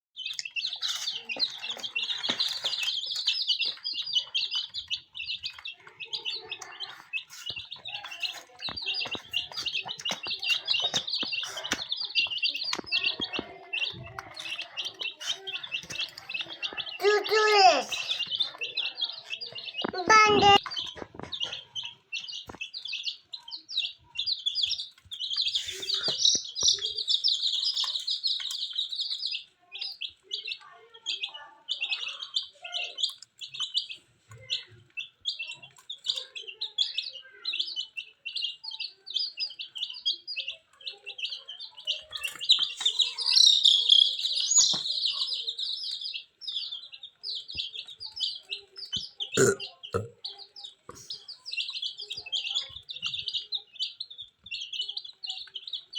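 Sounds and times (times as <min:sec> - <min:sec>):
baby chicks peeping: 0:00.2 - 0:55.9.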